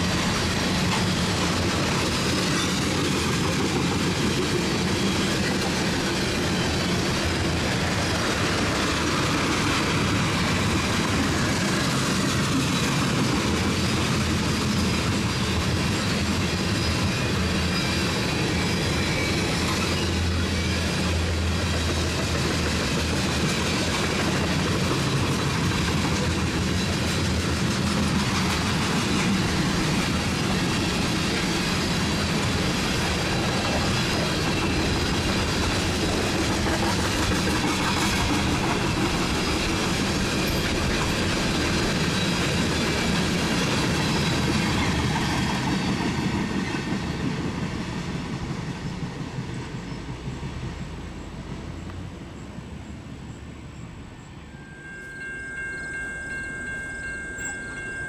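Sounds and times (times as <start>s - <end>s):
wheels clacking over rails: 0.0s - 51.3s
freight train rolling past: 0.0s - 58.0s.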